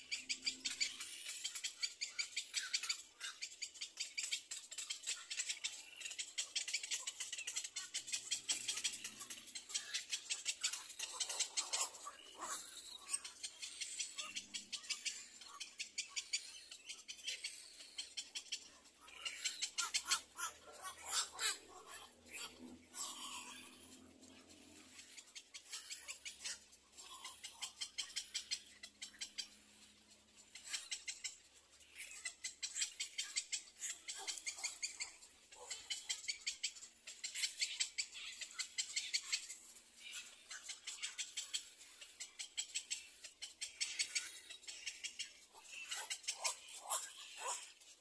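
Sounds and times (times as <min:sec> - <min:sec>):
young birds ticking chatter: 0:00.0 - 0:48.0.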